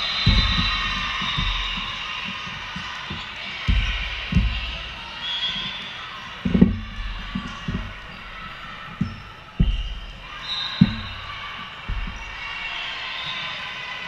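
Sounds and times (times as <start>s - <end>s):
balls bouncing on wooden floor: 0.0s - 5.8s, 6.4s - 12.8s
indistinct chatter: 0.0s - 14.0s.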